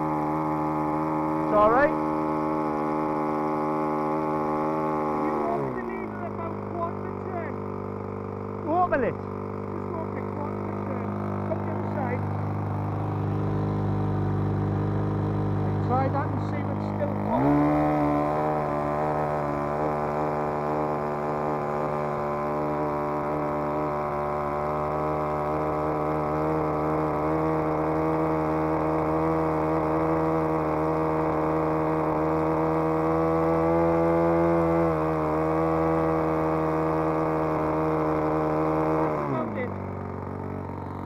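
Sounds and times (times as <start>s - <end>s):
model aircraft engine revving: 0.0s - 41.0s.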